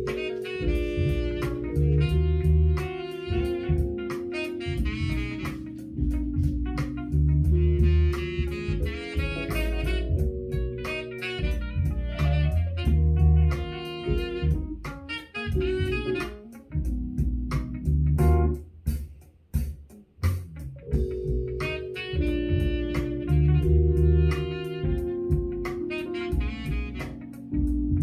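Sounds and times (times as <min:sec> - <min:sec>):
jazz music through speaker: 0:00.0 - 0:28.0.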